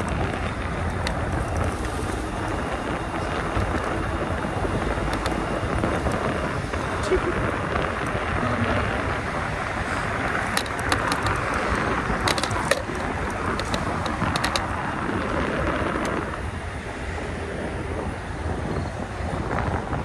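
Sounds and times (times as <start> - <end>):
bike tire road noise: 0.0 - 20.0
wind rushing over microphone: 0.0 - 20.0.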